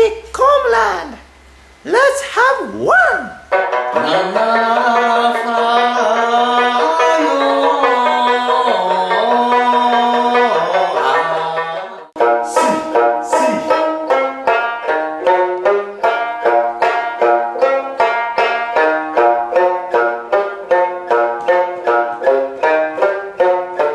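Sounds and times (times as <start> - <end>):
plucked lute tune: 3.2 - 23.9.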